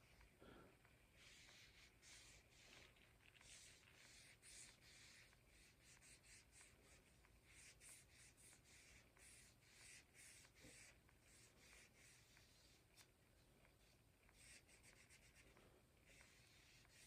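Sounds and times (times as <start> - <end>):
cloth rag rubbing wood: 1.2 - 13.1, 13.7 - 17.0.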